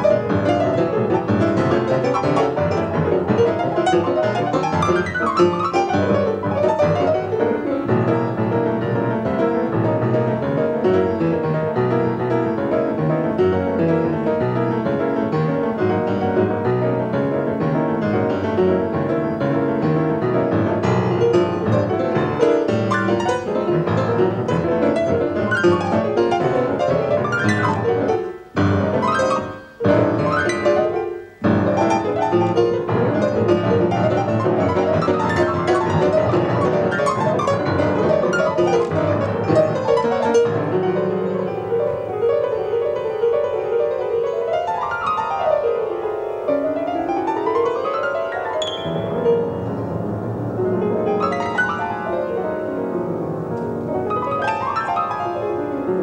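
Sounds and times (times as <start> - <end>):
free jazz piano: 0.0 - 56.0.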